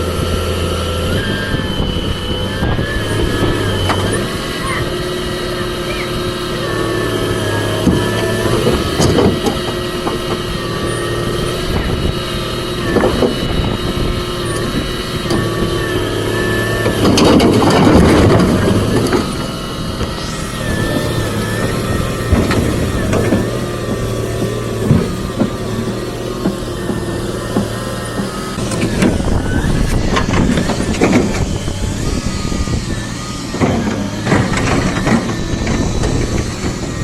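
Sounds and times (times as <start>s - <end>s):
excavator diesel engine: 0.0s - 37.0s
whining tones: 0.0s - 37.0s.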